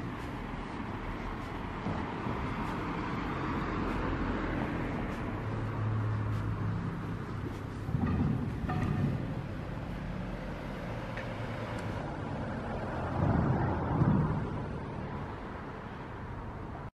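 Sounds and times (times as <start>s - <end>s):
low engine hum: 0.0s - 16.8s
car tyre noise passing: 0.0s - 16.9s.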